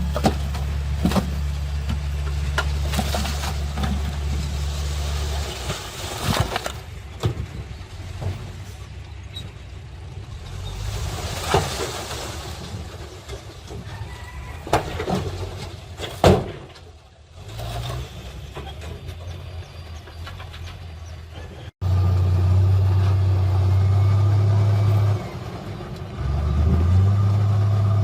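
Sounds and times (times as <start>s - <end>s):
diesel machinery rumbling: 0.0s - 28.0s.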